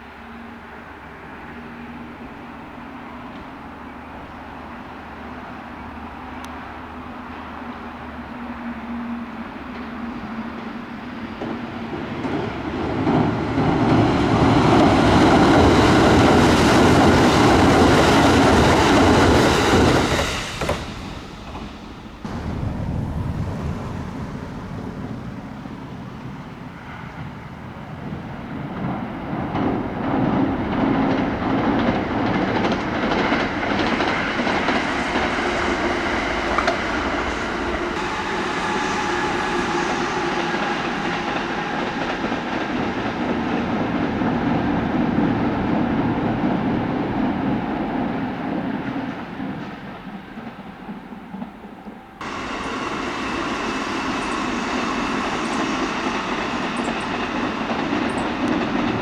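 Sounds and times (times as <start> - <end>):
train running gear whine: 0.0 - 59.0
wheels clacking over rail joints: 9.6 - 46.8, 48.8 - 59.0.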